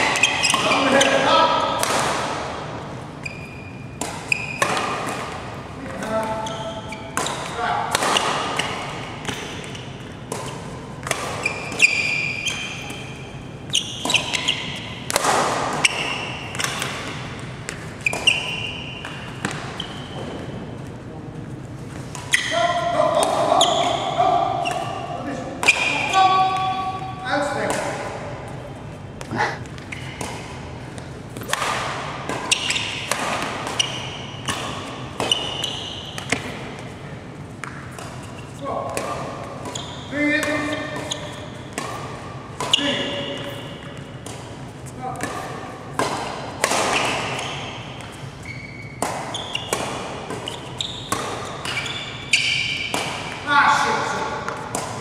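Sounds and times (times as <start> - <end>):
sneakers squeaking on court: 0.0 - 1.4, 3.1 - 21.0, 21.9 - 37.0, 37.6 - 55.0
racket hitting shuttlecock: 0.0 - 3.2, 3.8 - 20.6, 22.0 - 28.6, 29.2 - 55.0.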